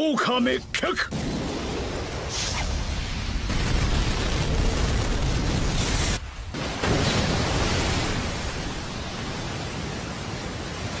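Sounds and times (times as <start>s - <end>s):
rushing rumble of flames: 1.1s - 11.0s.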